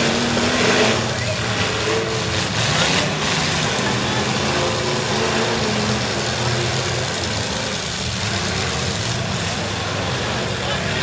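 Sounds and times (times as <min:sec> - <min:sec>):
truck engines revving: 0:00.0 - 0:11.0.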